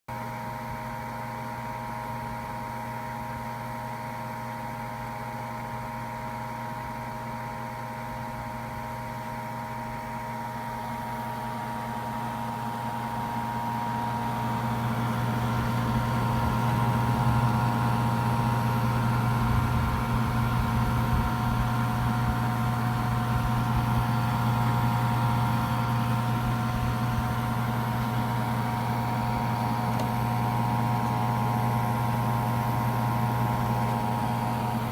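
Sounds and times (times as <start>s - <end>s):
graphics card fan buzzing: 0.2s - 34.9s.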